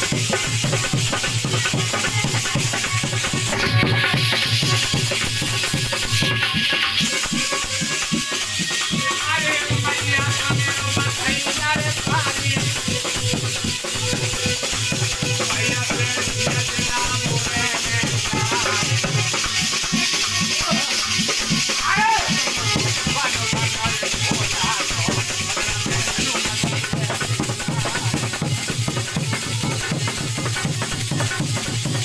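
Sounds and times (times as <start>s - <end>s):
hand drum strokes: 0.0s - 32.0s
rattling percussion: 0.0s - 32.0s.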